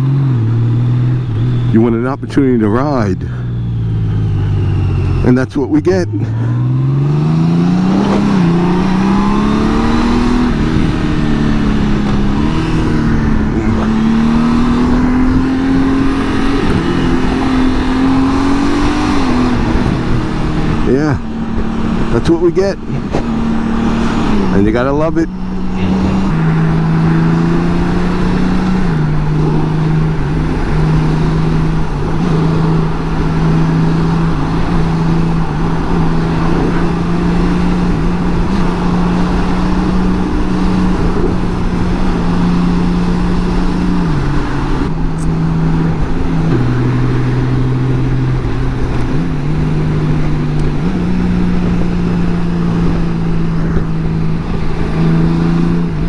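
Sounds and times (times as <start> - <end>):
motorcycle engine cruising: 0.0 - 56.0
wind and road rush: 0.0 - 56.0.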